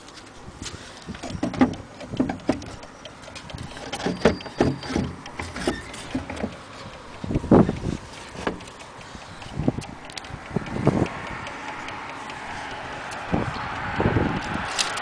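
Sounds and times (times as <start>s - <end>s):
clock movement knocks and rattles: 1.2s - 13.7s.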